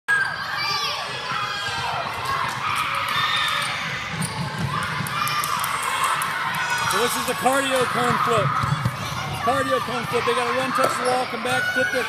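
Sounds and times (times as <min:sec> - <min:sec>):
children shouting: 0:00.1 - 0:12.0
children running on gym floor: 0:01.2 - 0:12.0.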